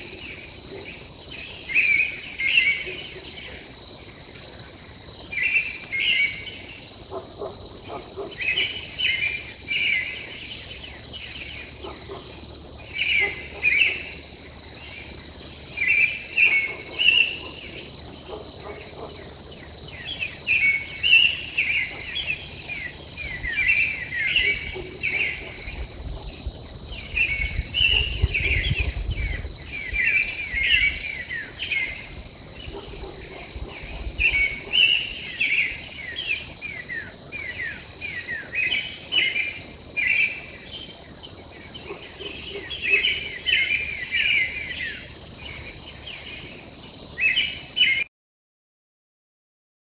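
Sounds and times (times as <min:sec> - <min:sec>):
high insect chorus: 0:00.0 - 0:48.1
songbird singing: 0:00.0 - 0:48.1.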